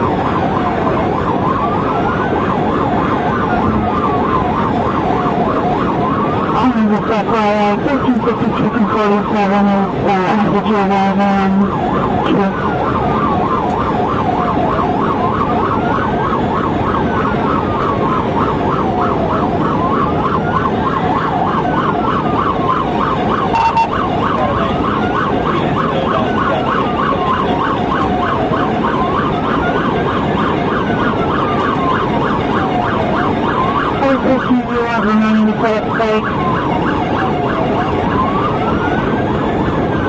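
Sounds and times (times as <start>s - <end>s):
police siren wailing: 0.0s - 40.0s
road and engine noise: 0.0s - 40.0s
siren warbling yelp: 0.0s - 40.0s.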